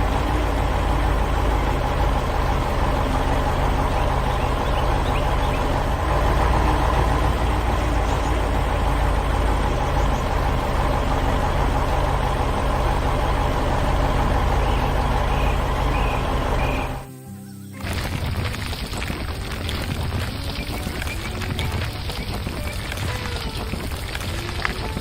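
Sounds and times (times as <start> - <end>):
heavy vehicle engine idling: 0.0 - 17.1, 17.8 - 25.0.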